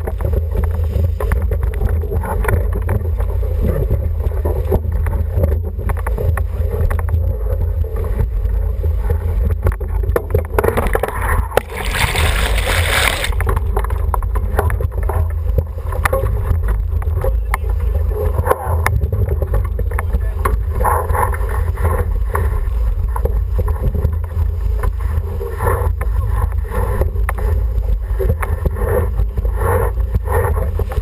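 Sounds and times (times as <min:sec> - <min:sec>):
water rushing along hull: 0:00.0 - 0:31.0.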